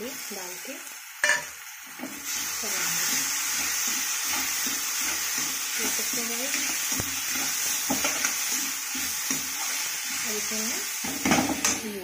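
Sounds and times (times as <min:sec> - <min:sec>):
frying sizzle: 0:00.0 - 0:12.0
spatula scraping a pan: 0:01.2 - 0:11.7.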